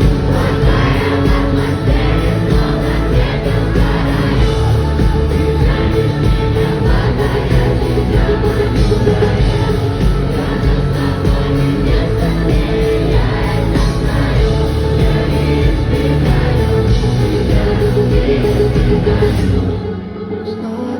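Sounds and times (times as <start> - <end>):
live rock band playing: 0.0 - 20.0
person singing: 0.0 - 20.9.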